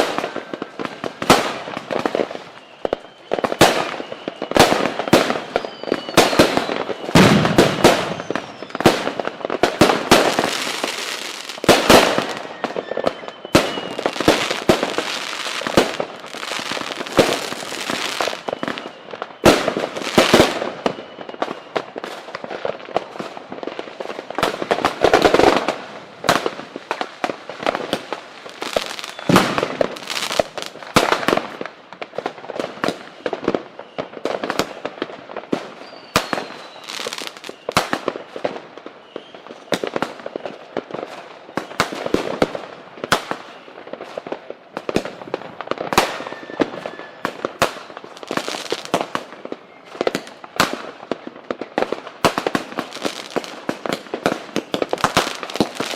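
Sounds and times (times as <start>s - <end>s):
fireworks cracks and bangs: 0.0s - 55.9s
fireworks falling whistles: 0.0s - 55.9s.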